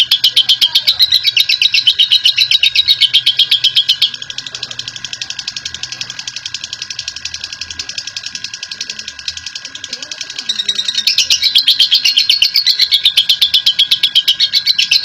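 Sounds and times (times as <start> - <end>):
lovebird chattering trill: 0.0 - 15.0.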